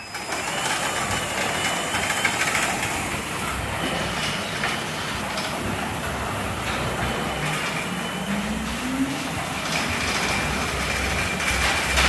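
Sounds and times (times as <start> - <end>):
garage door opener running: 0.0 - 12.0.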